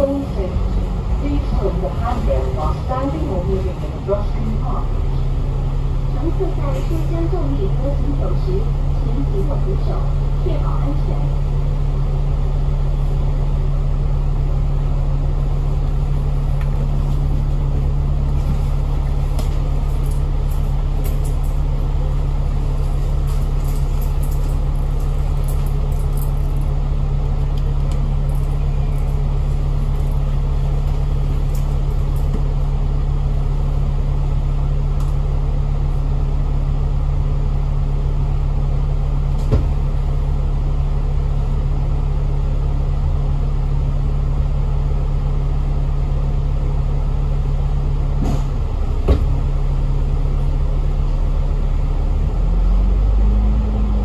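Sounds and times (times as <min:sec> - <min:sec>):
bus engine droning: 0:00.0 - 0:54.0.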